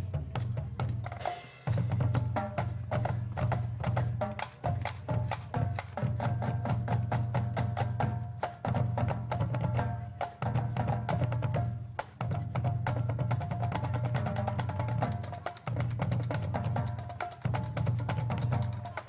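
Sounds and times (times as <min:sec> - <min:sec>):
marching drumline playing: 0:00.0 - 0:19.0.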